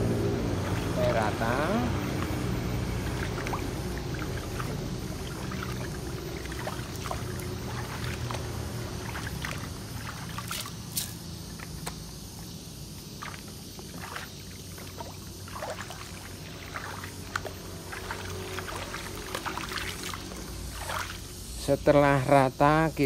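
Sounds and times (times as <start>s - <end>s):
hand swishing soapy water: 0.4s - 11.2s, 13.1s - 21.7s.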